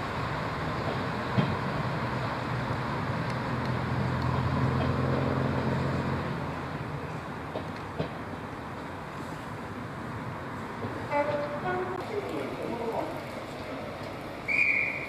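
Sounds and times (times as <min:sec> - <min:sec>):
diesel train engines running: 0:00.0 - 0:15.0.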